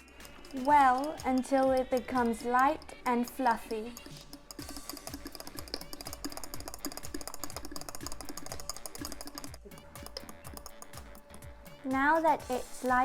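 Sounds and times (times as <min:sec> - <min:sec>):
whisk clicking against a cup: 0:00.0 - 0:11.5.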